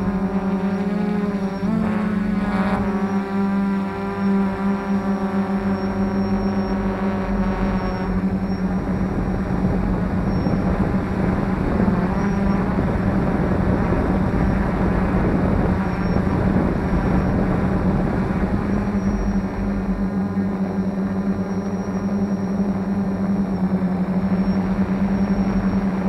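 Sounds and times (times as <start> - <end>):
drone motors buzzing: 0.0 - 26.0
propeller rushing noise: 0.0 - 26.0.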